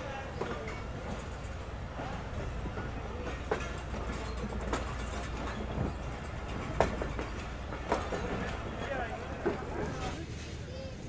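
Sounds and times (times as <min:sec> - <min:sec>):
rail coaches clanking: 0:00.0 - 0:11.0
train low rumble: 0:00.0 - 0:11.0.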